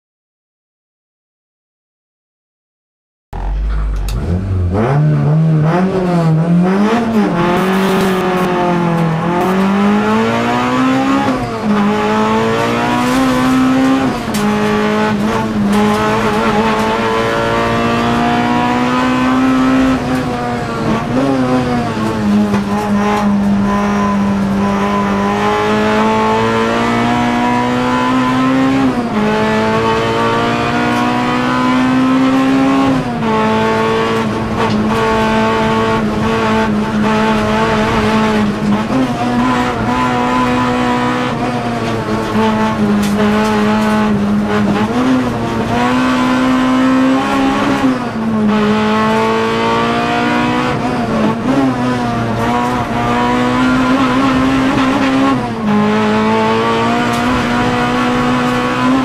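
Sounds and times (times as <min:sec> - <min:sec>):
car engine revving in cabin: 0:03.4 - 0:59.0.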